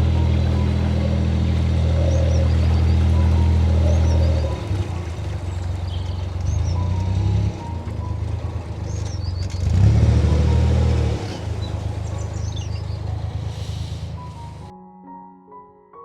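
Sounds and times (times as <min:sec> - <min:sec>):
boat diesel engine running: 0:00.0 - 0:14.7
small birds chirping: 0:00.0 - 0:14.7.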